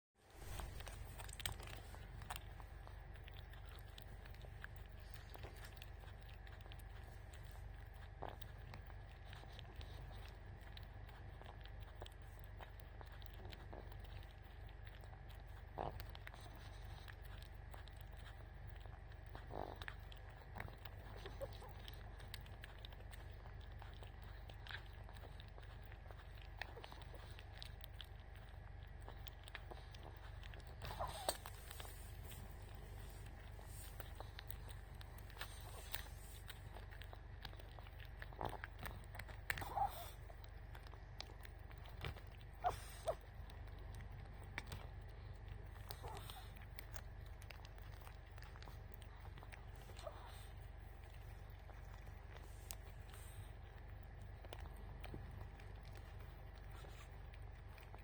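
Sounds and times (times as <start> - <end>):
small clicks and scratches: 0.2 - 58.0
steady low hum: 0.2 - 58.0.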